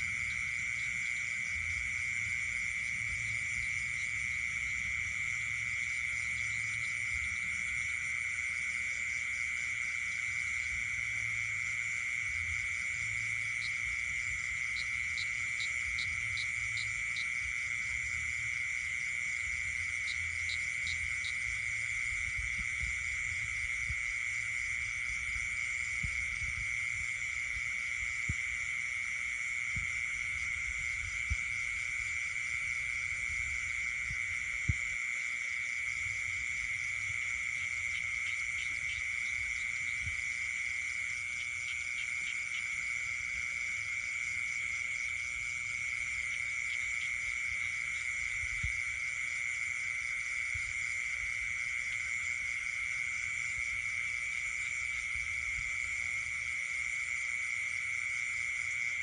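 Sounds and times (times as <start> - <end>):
frogs and insects trilling: 0.0 - 59.0.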